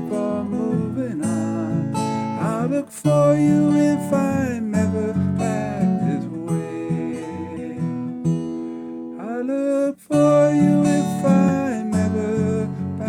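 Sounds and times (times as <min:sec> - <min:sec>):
person singing long notes: 0:00.0 - 0:08.1, 0:09.2 - 0:13.0
strummed acoustic guitar: 0:00.0 - 0:13.0.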